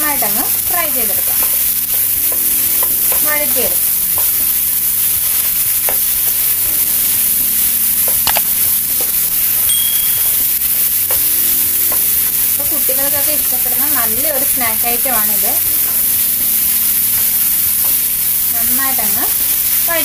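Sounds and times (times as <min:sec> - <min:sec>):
banana frying and sizzling: 0:00.0 - 0:20.0.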